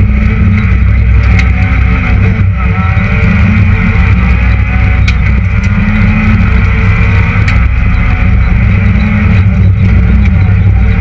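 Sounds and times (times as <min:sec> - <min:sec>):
car engine running loud: 0:00.0 - 0:11.0.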